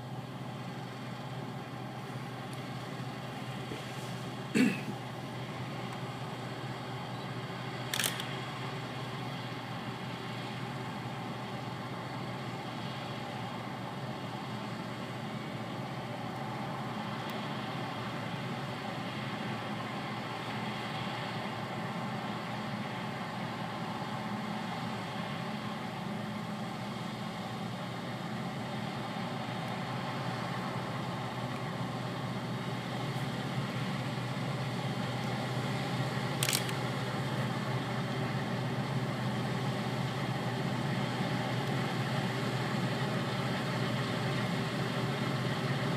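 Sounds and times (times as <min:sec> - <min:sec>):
combine harvester running: 0:00.0 - 0:45.9.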